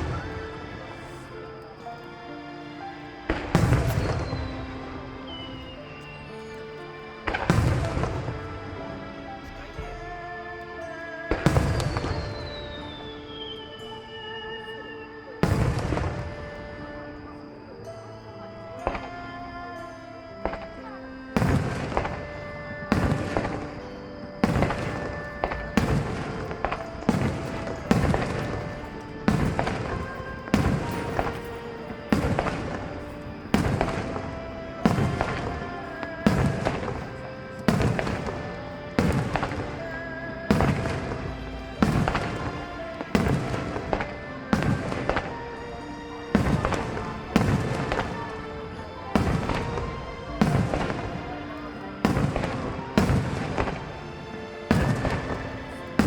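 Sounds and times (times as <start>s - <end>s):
firework shells bursting: 0.0s - 10.1s, 10.8s - 14.2s, 15.4s - 17.4s, 20.4s - 56.0s
music with held notes: 0.0s - 56.0s.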